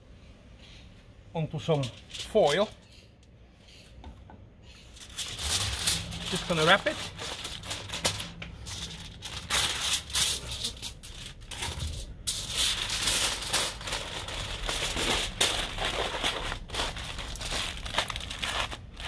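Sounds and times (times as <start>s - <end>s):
aluminium foil crinkling: 1.6s - 2.9s, 4.8s - 19.0s.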